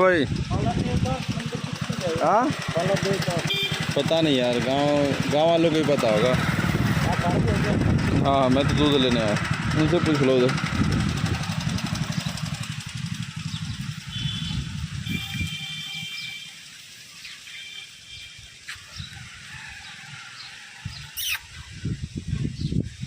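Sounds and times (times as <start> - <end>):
vehicle engine running: 0.0 - 19.4
outdoor background noise: 0.0 - 23.0.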